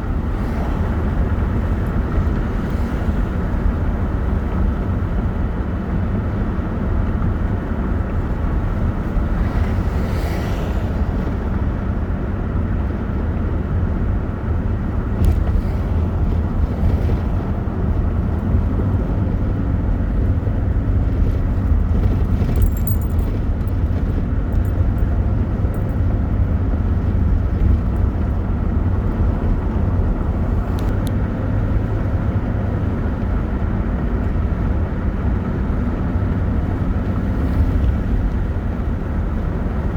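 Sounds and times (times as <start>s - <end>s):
vehicle rumbling on road: 0.0s - 39.9s.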